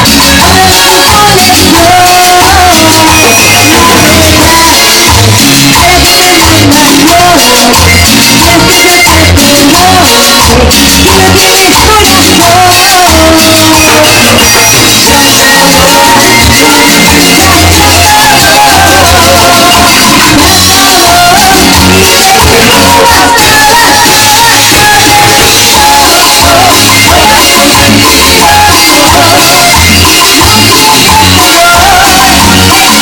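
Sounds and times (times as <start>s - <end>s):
bass: 0.0s - 33.0s
drum kit: 0.0s - 33.0s
person singing: 0.0s - 33.0s.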